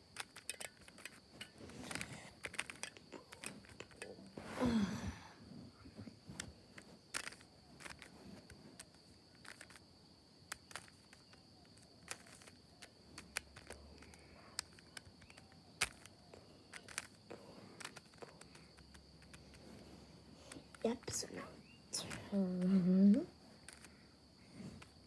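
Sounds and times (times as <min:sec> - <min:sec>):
puzzle cube plastic clicks: 0:00.0 - 0:04.5, 0:06.3 - 0:25.0.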